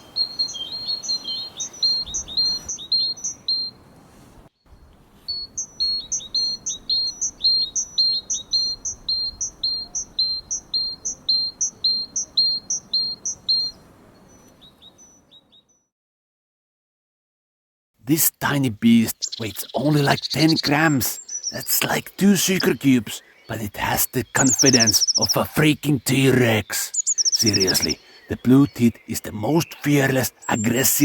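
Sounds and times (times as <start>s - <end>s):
great tit singing: 0.0s - 3.9s, 4.7s - 15.8s, 18.1s - 31.0s.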